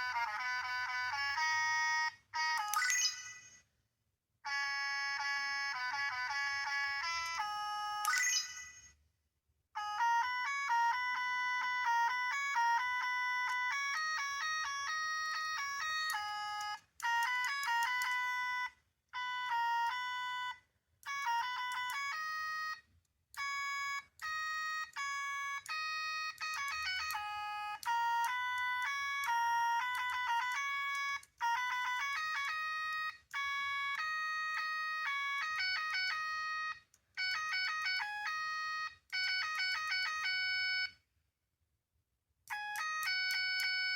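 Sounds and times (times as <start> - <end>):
tinny electronic toy melodies: 0.0 - 3.8, 4.4 - 9.1, 9.7 - 41.1, 42.5 - 43.9.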